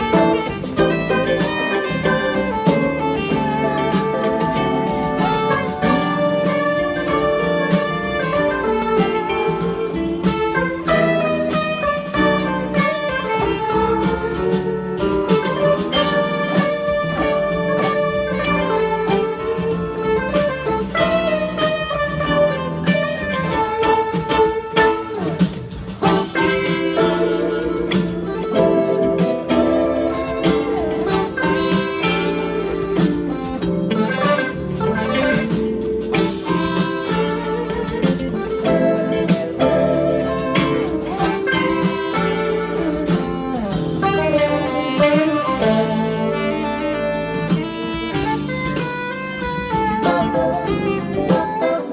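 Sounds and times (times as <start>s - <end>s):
bluesy guitar music: 0.0s - 51.9s.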